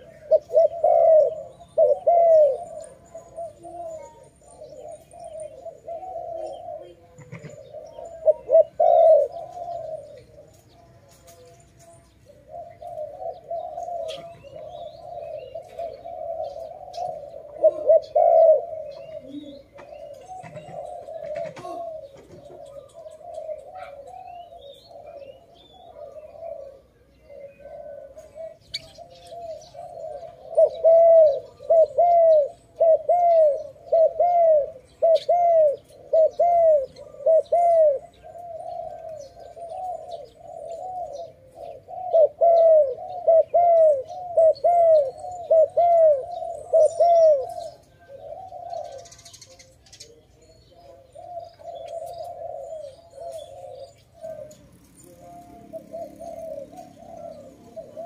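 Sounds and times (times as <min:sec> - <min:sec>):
dove cooing: 0:00.0 - 0:58.0
small birds chirping: 0:00.0 - 0:58.0.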